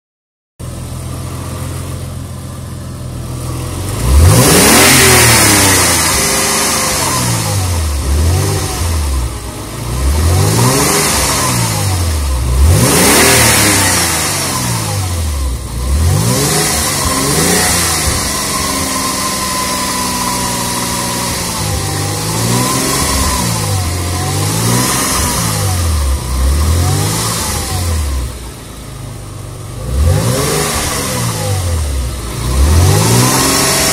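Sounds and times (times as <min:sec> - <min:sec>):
car engine idling and revving: 0:00.6 - 0:33.9.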